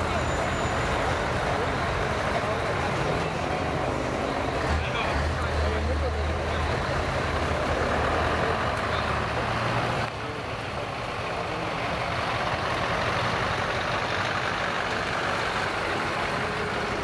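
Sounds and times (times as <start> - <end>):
truck diesel engine driving past: 0.0 - 17.0.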